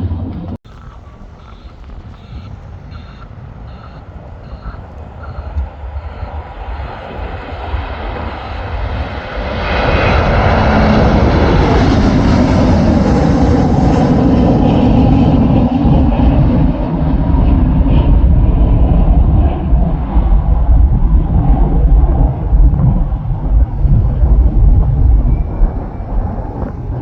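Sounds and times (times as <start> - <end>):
jet engines rushing: 0.0 - 27.0
low rumble: 0.0 - 27.0.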